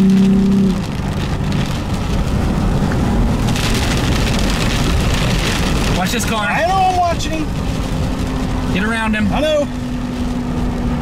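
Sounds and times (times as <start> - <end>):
heavy rain on windshield and roof: 0.0 - 11.0
road and wind noise: 0.0 - 11.0.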